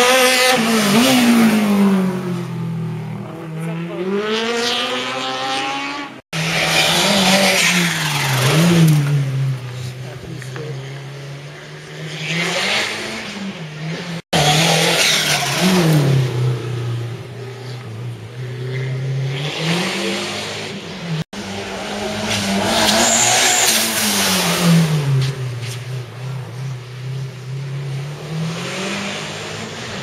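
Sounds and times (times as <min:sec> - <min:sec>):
rally car engines revving hard: 0:00.0 - 0:30.0.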